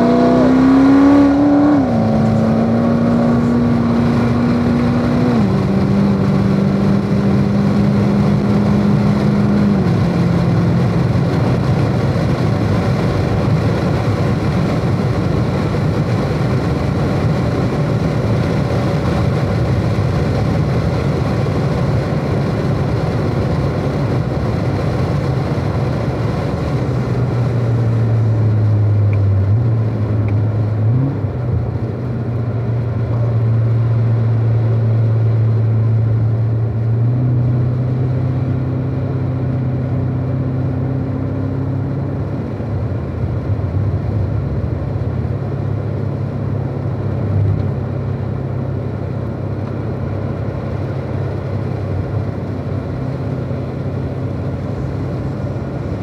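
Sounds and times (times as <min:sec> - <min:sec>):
car engine drone: 0:00.0 - 0:56.0.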